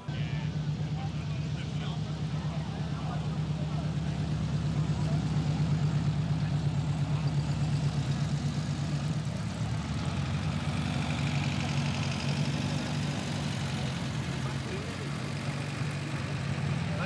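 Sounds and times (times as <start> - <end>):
car engines throbbing: 0.0 - 17.0.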